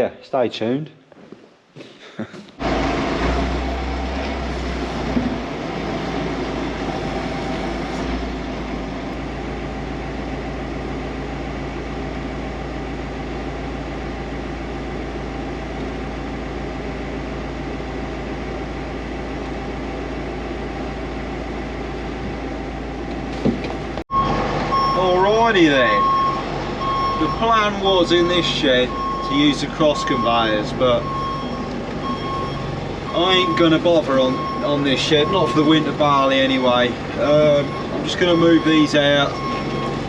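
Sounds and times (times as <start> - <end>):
diesel engine running: 2.5 - 40.0.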